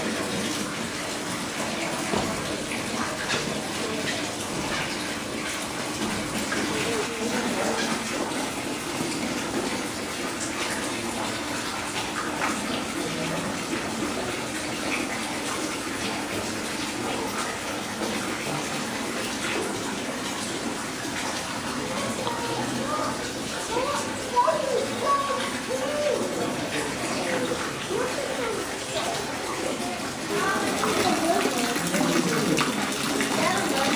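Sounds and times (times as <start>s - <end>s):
running water rushing and splashing: 0.0s - 33.9s.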